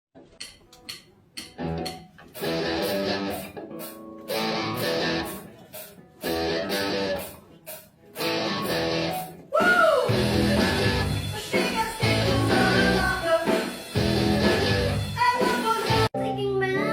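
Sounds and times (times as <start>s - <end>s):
rock guitar chords: 1.6s - 9.5s, 10.1s - 16.1s.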